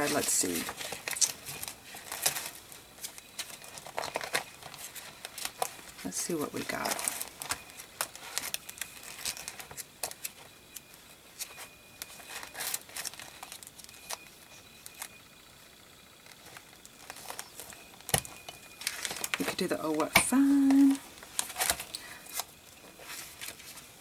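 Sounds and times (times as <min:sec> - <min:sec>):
paper rustling: 0:00.0 - 0:15.1, 0:16.2 - 0:24.0.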